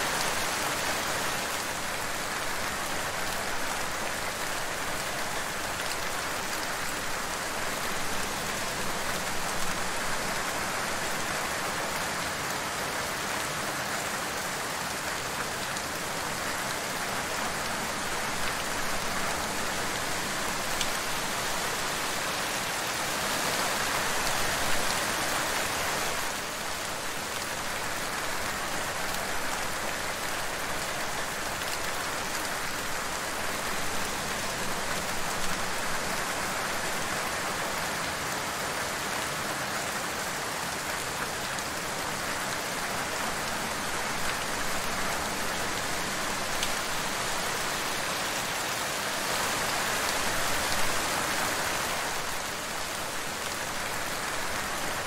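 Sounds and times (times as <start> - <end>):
steady rain patter: 0.0 - 55.0.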